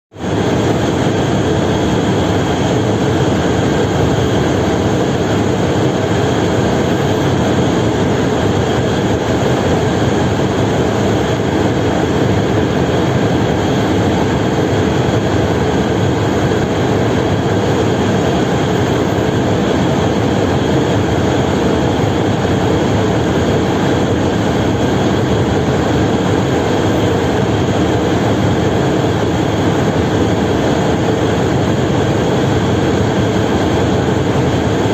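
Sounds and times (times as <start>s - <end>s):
large engine drone: 0.1s - 34.9s.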